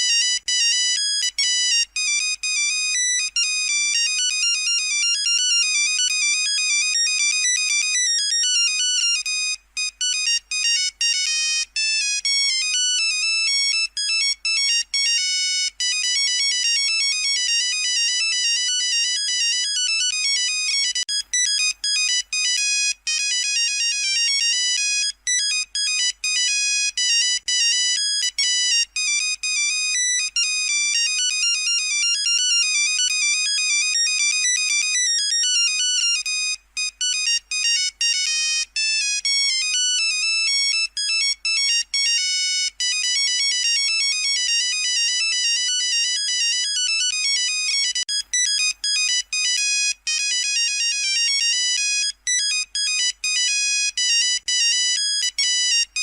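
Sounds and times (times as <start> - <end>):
monophonic phone ringtone: 0.0 - 56.0.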